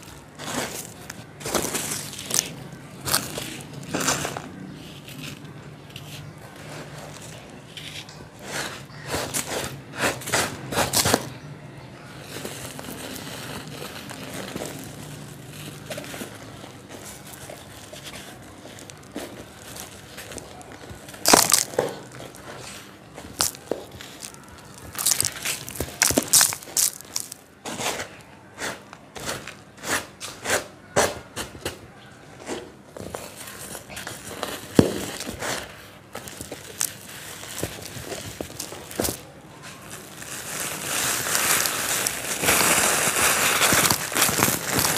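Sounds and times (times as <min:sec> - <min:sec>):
dry sand crunching: 0:00.0 - 0:31.3, 0:32.4 - 0:44.9.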